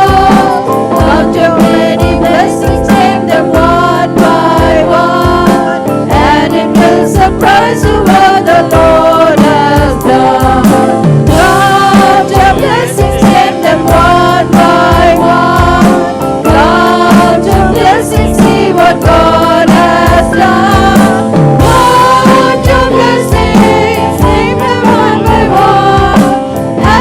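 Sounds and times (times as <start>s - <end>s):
band with steady beat: 0.0s - 27.0s
group of voices singing: 0.0s - 27.0s.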